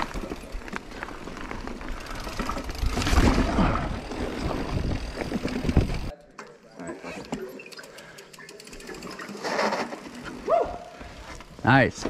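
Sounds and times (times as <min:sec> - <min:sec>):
bike rattling over bumps: 0:00.0 - 0:06.1, 0:07.2 - 0:12.0
bike tyres on dirt and roots: 0:00.0 - 0:12.0.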